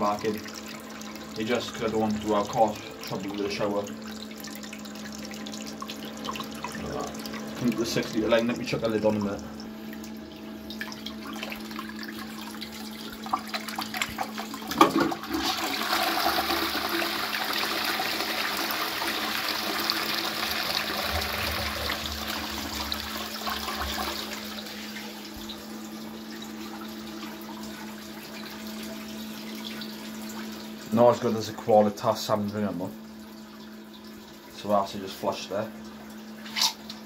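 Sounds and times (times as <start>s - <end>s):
cistern refilling: 0.0s - 37.0s
toilet flushing water rush: 0.0s - 37.0s.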